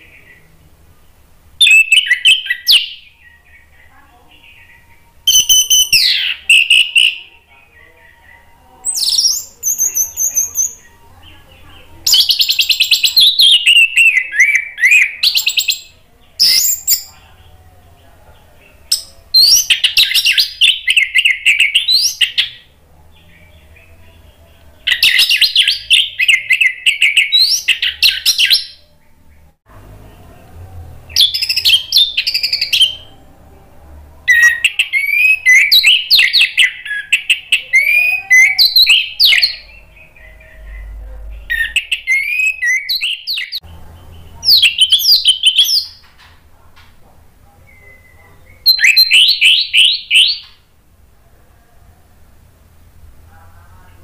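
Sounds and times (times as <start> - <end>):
thrush singing: 0.0 - 46.1.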